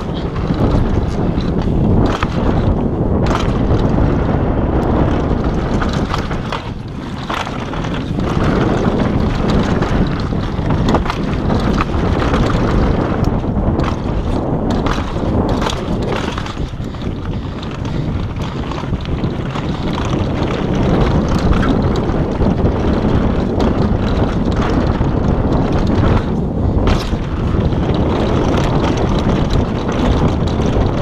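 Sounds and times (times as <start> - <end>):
bike knocks and rattles: 0.0 - 31.0
tyres rumbling on dirt trail: 0.0 - 31.0
wind buffeting microphone: 0.0 - 31.0.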